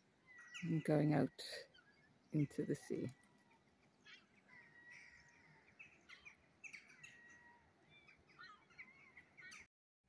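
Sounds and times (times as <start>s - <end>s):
faint birds chirping: 0.0s - 9.7s.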